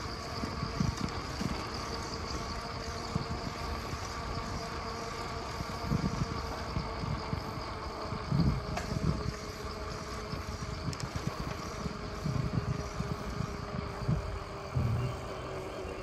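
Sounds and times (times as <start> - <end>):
insects droning: 0.0 - 16.0
wind rumbling on microphone: 0.0 - 16.0.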